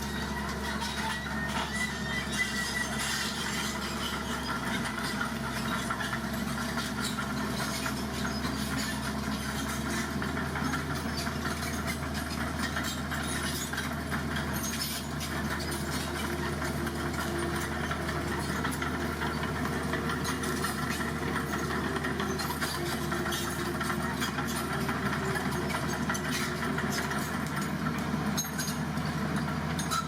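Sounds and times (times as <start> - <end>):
dump truck engine running: 0.0 - 30.0.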